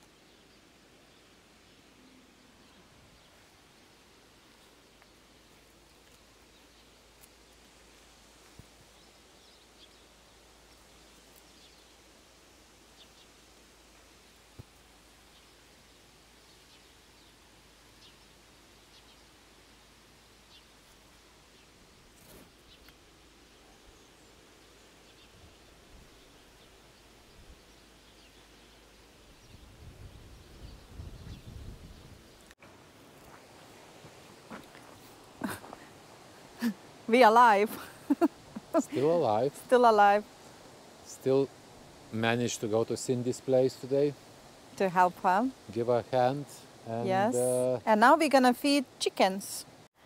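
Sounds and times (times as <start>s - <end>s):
outdoor background hiss: 0.0s - 50.0s.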